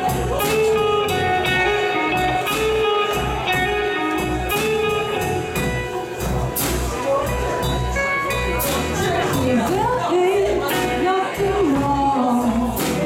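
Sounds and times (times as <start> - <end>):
drum kit beat: 0.0 - 13.0
electric guitars: 0.0 - 13.0.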